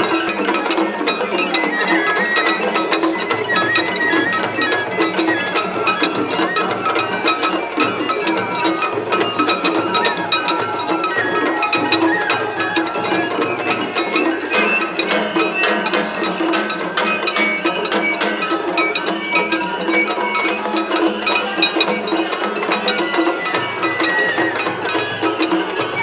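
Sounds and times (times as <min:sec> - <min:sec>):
bamboo flute melody: 0:00.0 - 0:26.0
drum beats: 0:00.0 - 0:26.0.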